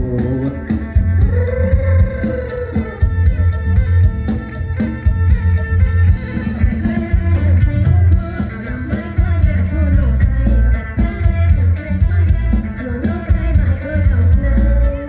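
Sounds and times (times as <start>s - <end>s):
band music: 0.0s - 15.0s
bass: 0.0s - 15.0s
drum kit beat: 0.0s - 15.0s
guitar: 0.0s - 15.0s.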